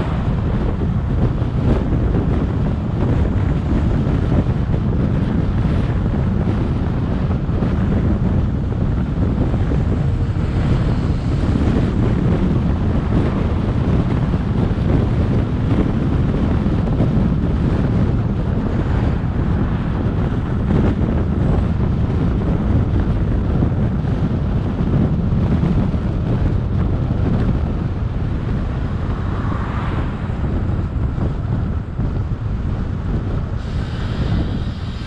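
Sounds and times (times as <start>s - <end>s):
car road noise: 0.0s - 35.0s
wind rumble on microphone: 0.0s - 35.0s.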